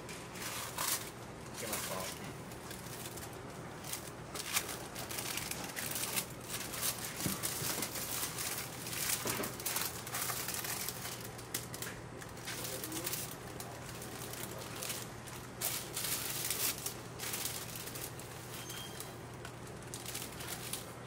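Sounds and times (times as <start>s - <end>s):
baking paper rustling and crinkling: 0.0s - 21.0s.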